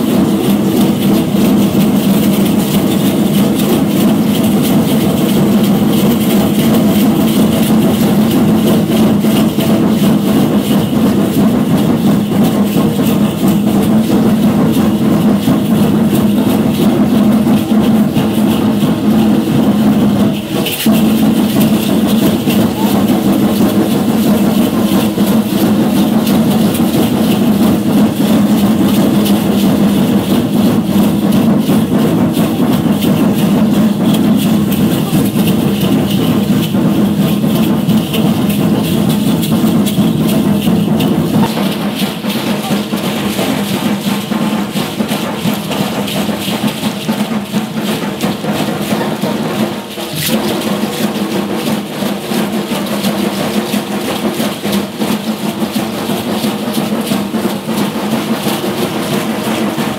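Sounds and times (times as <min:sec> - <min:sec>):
seed-pod ankle rattles shaking: 0:00.0 - 0:59.9.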